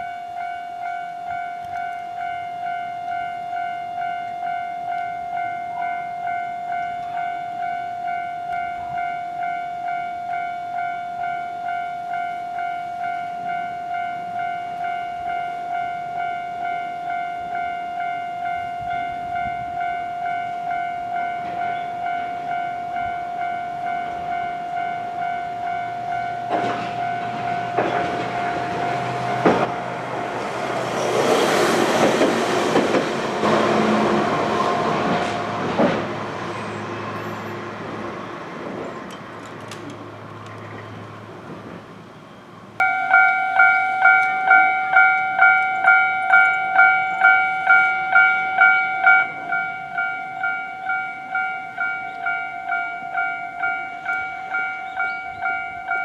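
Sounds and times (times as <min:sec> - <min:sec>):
level-crossing warning bell ringing: 0:00.0 - 0:37.7, 0:42.8 - 0:56.0
tram clicking over rail joints: 0:01.2 - 0:56.0.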